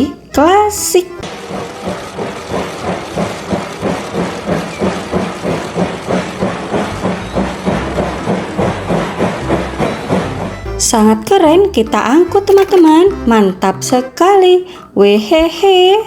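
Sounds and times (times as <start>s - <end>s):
steam train chugging: 0.0s - 16.0s.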